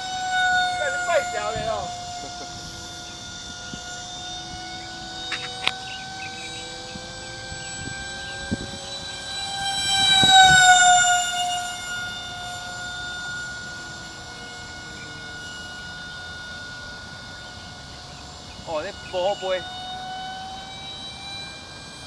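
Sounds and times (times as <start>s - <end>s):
model airplane motor whining: 0.0s - 22.0s.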